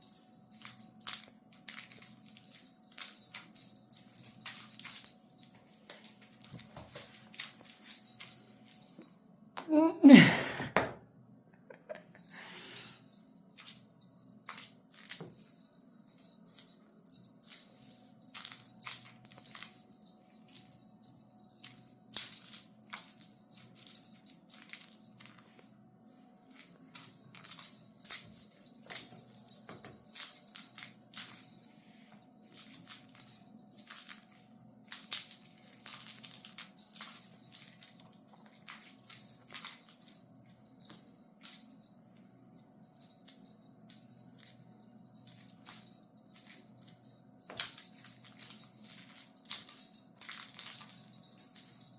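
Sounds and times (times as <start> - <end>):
faint jingling: 0.0 - 10.2, 12.0 - 51.9.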